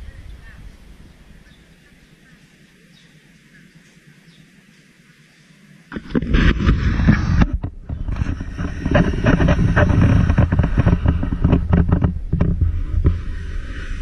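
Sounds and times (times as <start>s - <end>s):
wind buffeting microphone: 0.0s - 3.9s, 5.9s - 14.0s.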